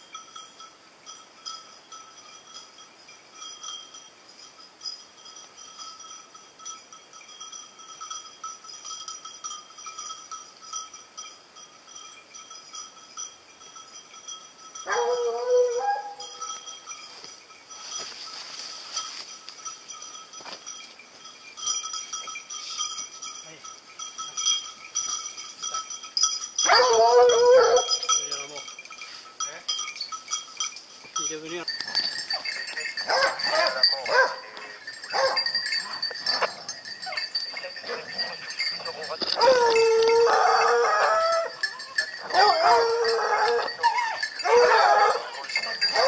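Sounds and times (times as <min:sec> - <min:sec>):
small metal bells tinkling: 0:00.0 - 0:46.0.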